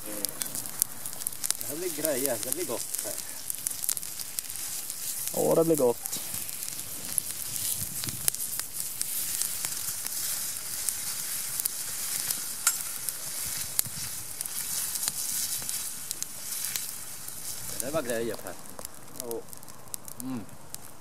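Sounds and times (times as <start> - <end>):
sausages sizzling in frying pan: 0.0 - 21.0.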